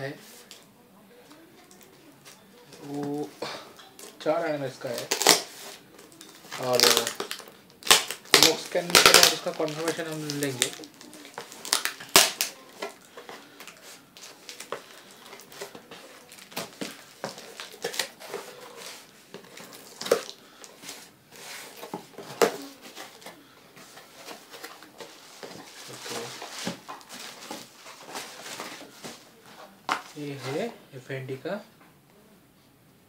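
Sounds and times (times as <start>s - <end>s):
cardboard packaging rustling: 1.3s - 30.8s.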